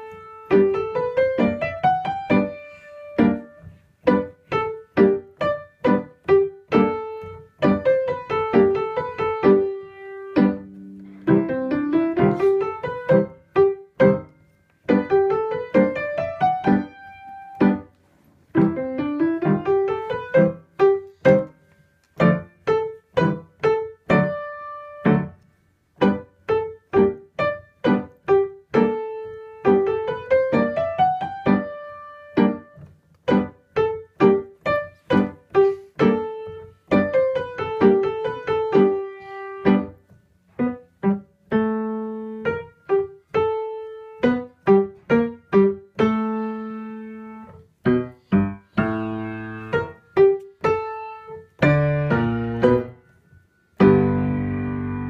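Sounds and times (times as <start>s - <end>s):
piano music: 0.0s - 25.4s, 26.0s - 55.0s.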